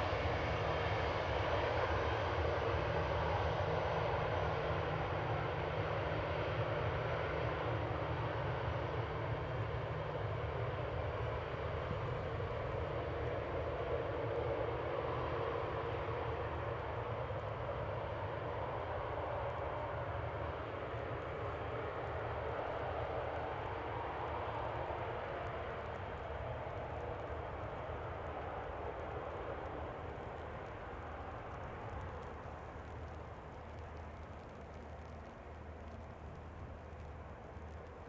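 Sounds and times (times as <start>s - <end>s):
jet engines in reverse thrust: 0.0s - 38.0s.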